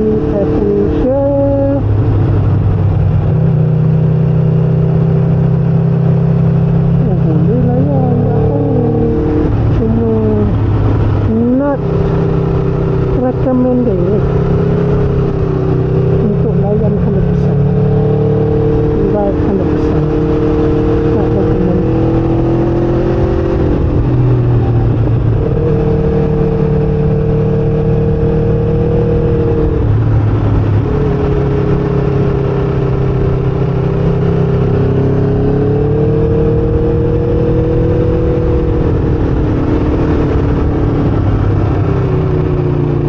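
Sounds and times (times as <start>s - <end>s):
motorcycle engine at road speed: 0.0s - 43.0s
wind and road noise: 0.0s - 43.0s.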